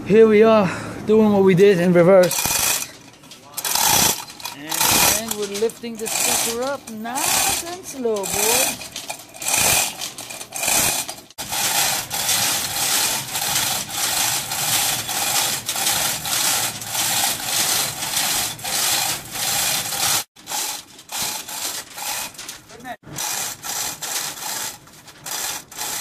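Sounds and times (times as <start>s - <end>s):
chain hoist rasping rattle: 2.0s - 26.0s.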